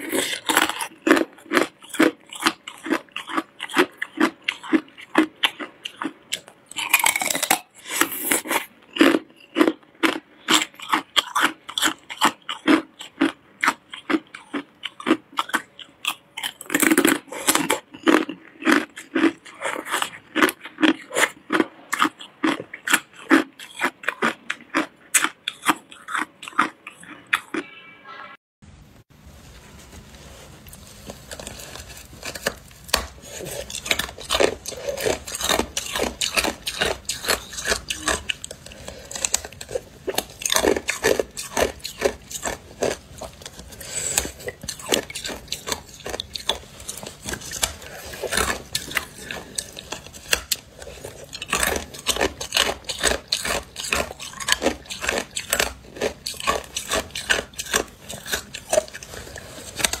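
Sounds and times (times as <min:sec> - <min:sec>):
teeth crunching hard ice: 0:00.0 - 0:27.8, 0:31.0 - 1:00.0.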